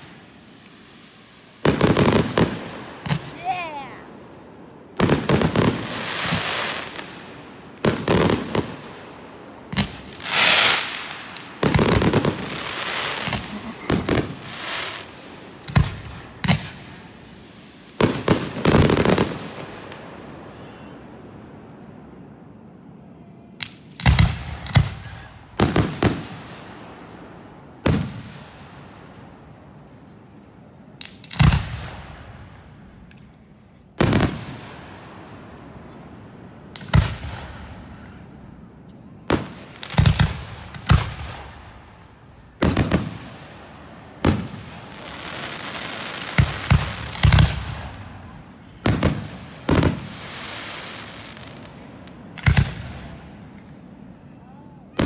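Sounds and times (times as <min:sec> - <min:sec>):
fireworks booming: 0:00.0 - 0:55.0
steady hiss: 0:00.0 - 0:55.0.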